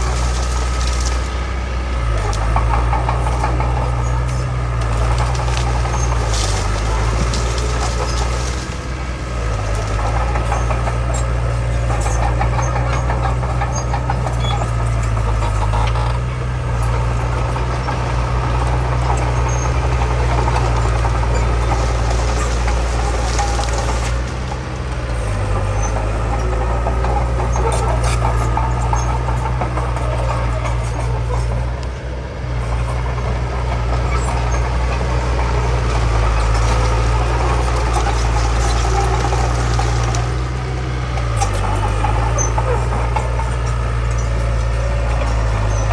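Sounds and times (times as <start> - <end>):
bulldozer engine running: 0.0 - 45.9.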